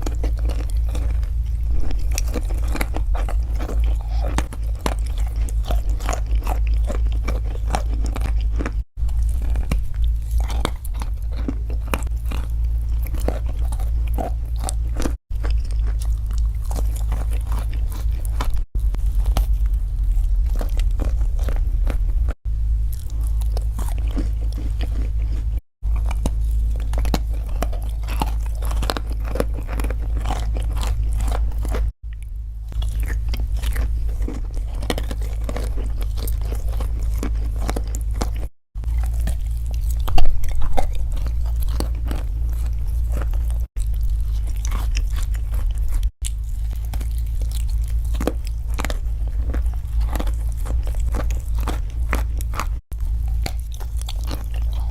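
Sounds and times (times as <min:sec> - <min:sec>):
crunching and chewing crisp food: 0:00.0 - 0:54.9
steady low hum: 0:00.0 - 0:54.9.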